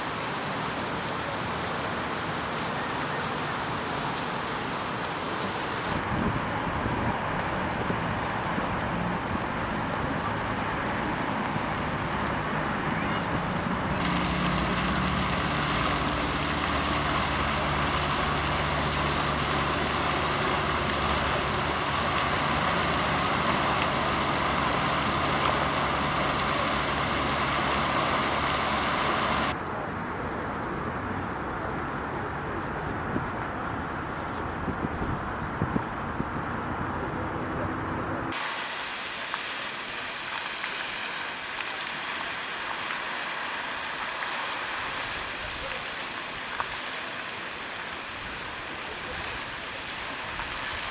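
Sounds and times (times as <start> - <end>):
fountain water splashing: 0.0 - 29.6, 38.3 - 50.9.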